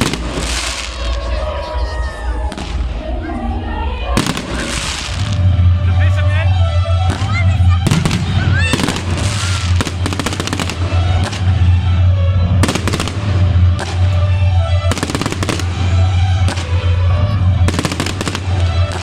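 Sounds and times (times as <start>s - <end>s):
fireworks crackling: 0.0s - 3.2s, 4.1s - 19.0s
firework rising whistle: 0.0s - 19.0s
loud music with deep bass: 0.0s - 19.0s.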